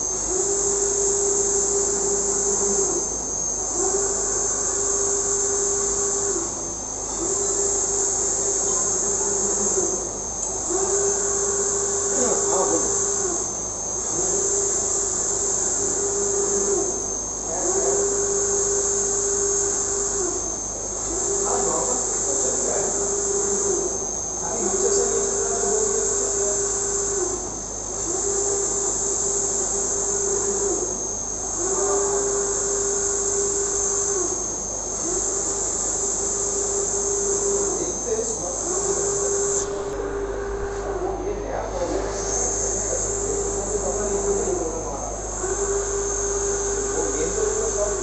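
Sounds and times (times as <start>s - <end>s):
printer carriage whine and hum: 0.0s - 48.0s.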